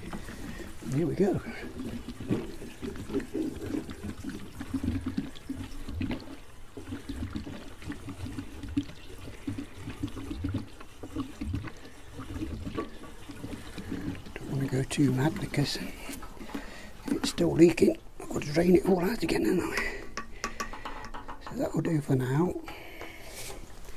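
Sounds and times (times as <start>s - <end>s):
petrol pouring into fuel tank: 0.0s - 22.0s, 22.6s - 23.9s.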